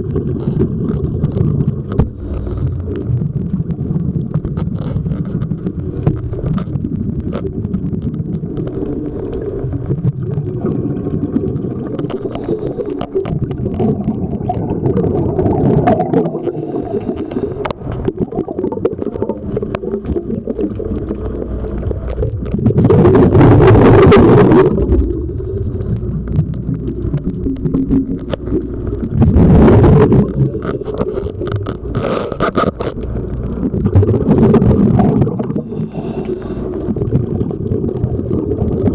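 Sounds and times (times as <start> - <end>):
exhaled breath bubbles underwater: 0.0 - 38.9
low underwater rumble: 0.0 - 38.9.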